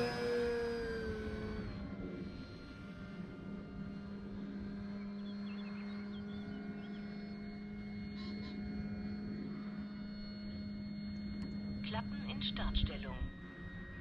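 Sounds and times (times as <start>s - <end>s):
distant model plane drone: 0.0s - 14.0s.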